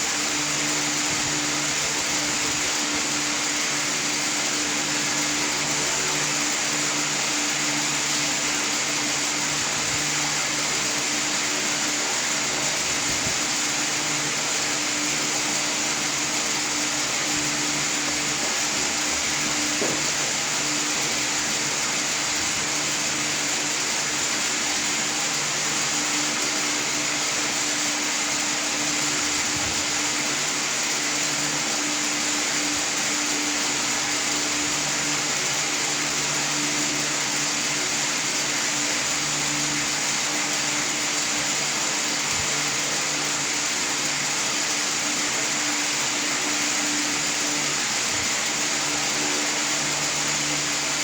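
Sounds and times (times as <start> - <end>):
machine whirring with low hum: 0.0 - 51.0.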